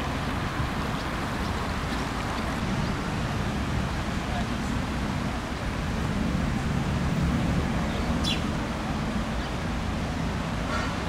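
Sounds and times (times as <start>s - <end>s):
distant city traffic rumble: 0.0s - 11.0s.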